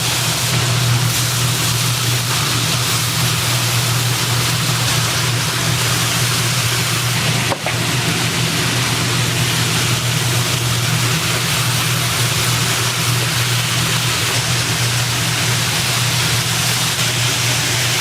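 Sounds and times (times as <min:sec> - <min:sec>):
kitchen roar with low hum: 0:00.0 - 0:18.0.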